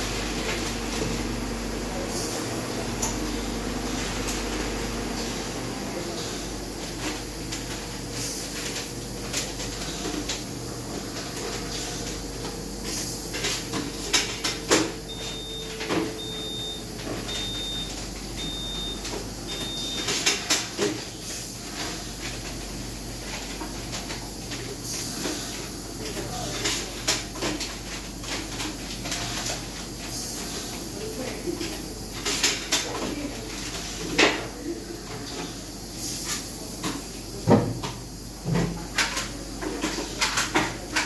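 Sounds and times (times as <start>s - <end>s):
steam sterilizer hum and hiss: 0.0s - 41.0s.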